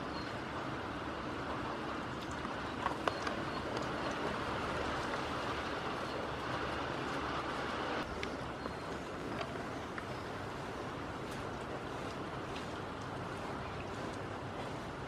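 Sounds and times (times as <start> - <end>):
rain on a roof: 0.0 - 15.0
faint drips: 1.9 - 7.2, 8.0 - 15.0.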